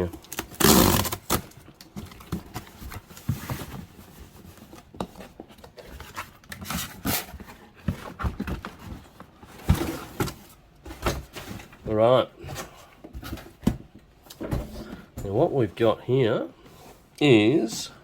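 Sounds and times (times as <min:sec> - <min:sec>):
cardboard box rustling: 0:00.0 - 0:17.7.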